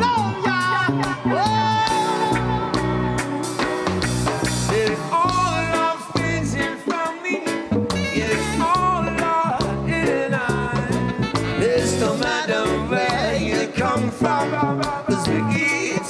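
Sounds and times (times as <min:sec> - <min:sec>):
person singing: 0:00.0 - 0:16.0
reggae band playing: 0:00.0 - 0:16.0.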